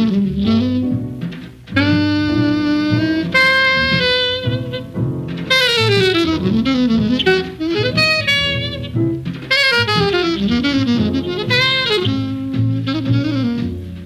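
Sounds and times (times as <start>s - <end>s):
alto saxophone fast runs: 0.0s - 0.9s, 1.7s - 14.0s
drums: 0.0s - 14.0s
walking bass: 0.0s - 14.0s.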